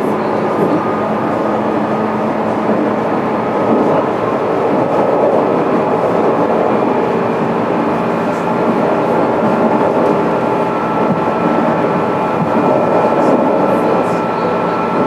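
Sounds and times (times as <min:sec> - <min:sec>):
train interior hum and rush: 0:00.0 - 0:15.0.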